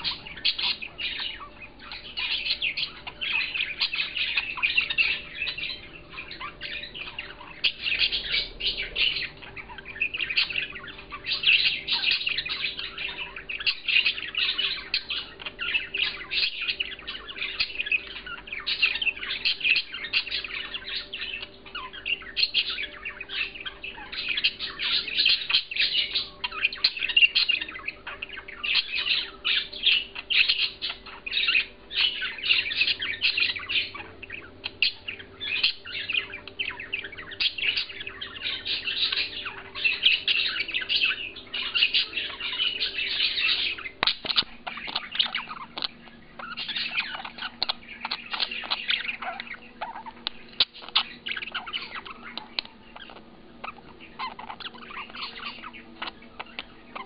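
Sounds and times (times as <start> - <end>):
budgerigar warbling: 0.0 - 57.0.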